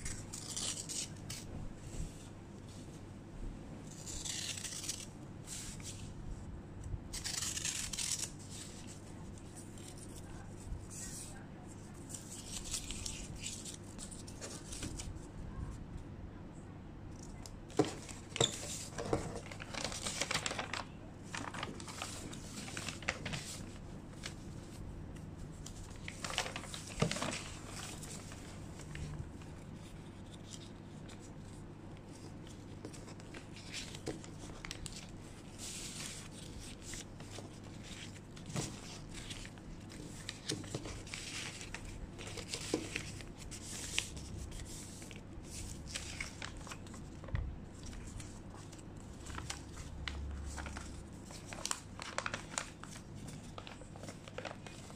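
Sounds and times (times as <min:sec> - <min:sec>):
paper rustling and crinkling: 0:00.0 - 0:03.0, 0:03.9 - 0:06.2, 0:07.1 - 0:15.8, 0:17.7 - 0:54.9.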